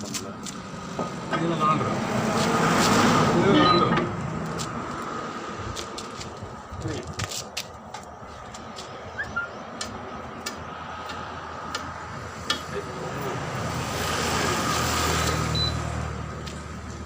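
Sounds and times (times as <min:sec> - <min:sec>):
vehicle passing by: 0:00.3 - 0:06.7, 0:08.6 - 0:17.0.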